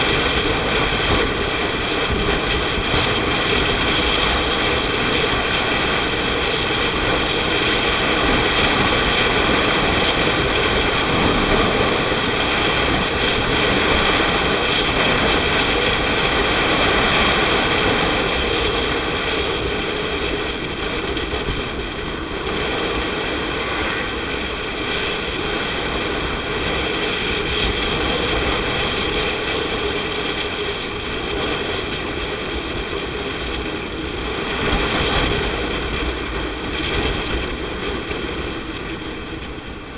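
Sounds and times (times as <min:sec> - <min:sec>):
road and wind rumble: 0:00.0 - 0:39.9.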